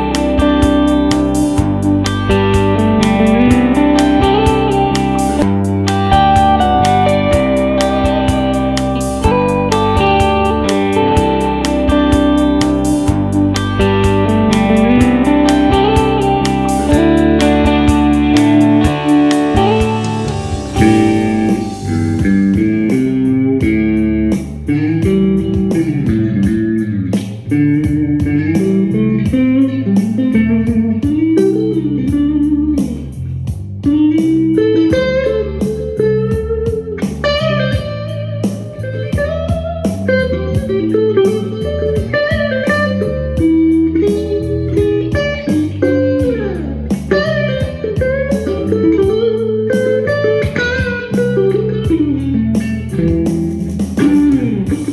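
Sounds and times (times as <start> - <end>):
electric guitar blues lead: 0.0 - 54.9.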